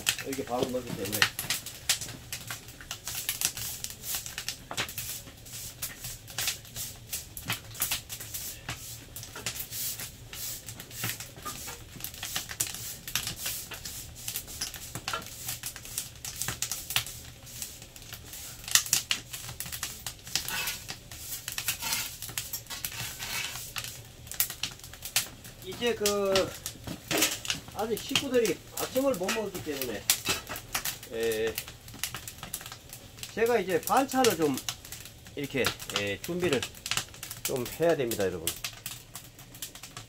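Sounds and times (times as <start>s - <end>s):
firewood crackling in a stove: 0.0s - 40.0s.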